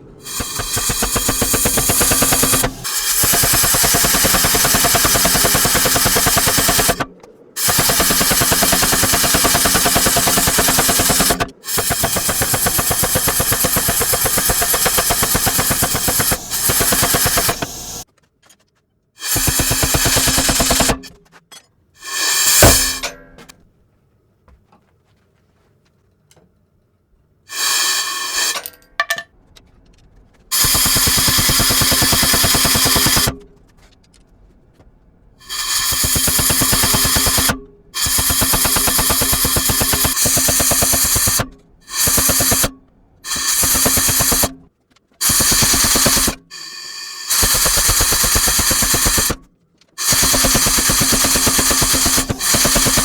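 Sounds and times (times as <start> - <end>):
power hammer pounding steel: 0.0 - 18.1, 19.2 - 21.2, 22.0 - 23.5, 27.5 - 29.2, 30.5 - 33.6, 35.4 - 53.0.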